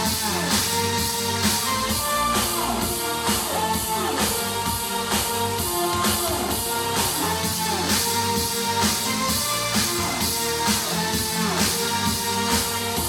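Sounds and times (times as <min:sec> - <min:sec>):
music with steady drum beat: 0:00.0 - 0:13.0.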